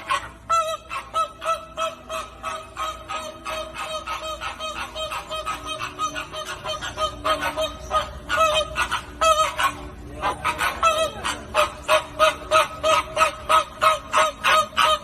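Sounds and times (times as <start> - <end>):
flock of flamingos honking: 0.0 - 15.0.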